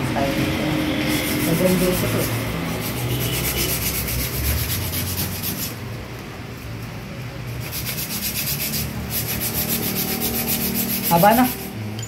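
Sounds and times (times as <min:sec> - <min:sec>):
hand sanding strokes: 0:00.3 - 0:05.8, 0:07.5 - 0:11.8.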